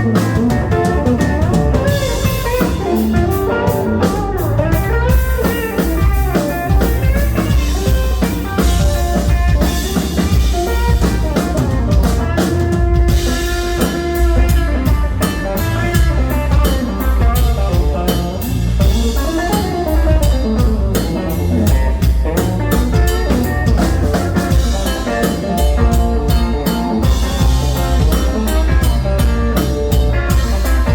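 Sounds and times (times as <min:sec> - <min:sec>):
blues electric guitar lead: 0:00.0 - 0:30.9
drum kit with rimshots: 0:00.0 - 0:30.9.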